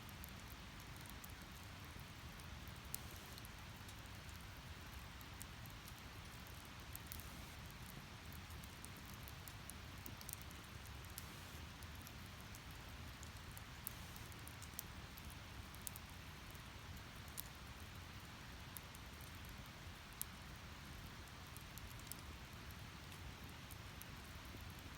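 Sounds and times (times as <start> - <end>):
faint steady fire hiss: 0.0 - 24.9
firewood crackling and popping: 0.1 - 24.9.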